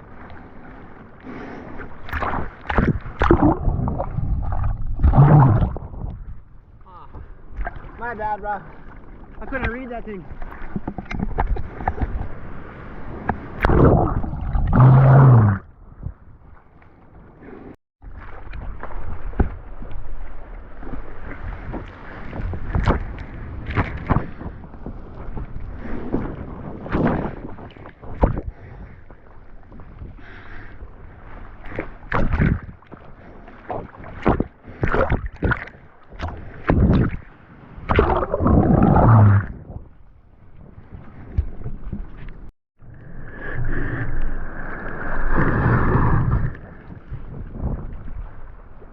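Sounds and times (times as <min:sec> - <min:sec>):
ocean water splashing: 0:00.0 - 0:48.9.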